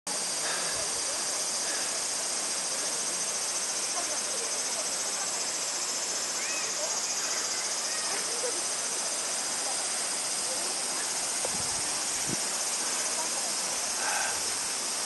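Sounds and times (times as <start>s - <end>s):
high-pitched insect drone: 0.1s - 15.0s
stream running over rocks: 0.1s - 15.0s.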